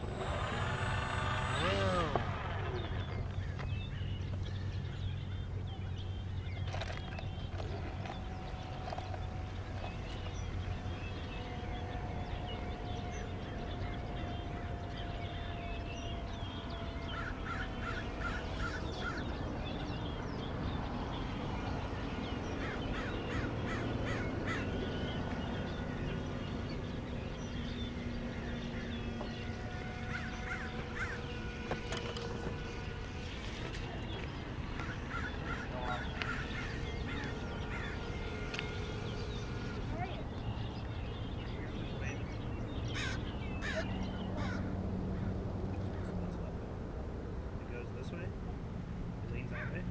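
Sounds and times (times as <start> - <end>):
birds calling: 0.0 - 46.6, 49.2 - 49.9
faint hum: 0.0 - 49.9.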